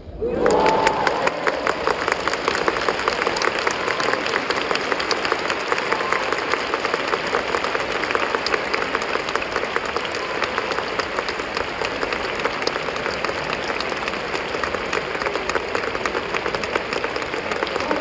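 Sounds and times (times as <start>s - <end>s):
audience applauding: 0.2s - 18.0s.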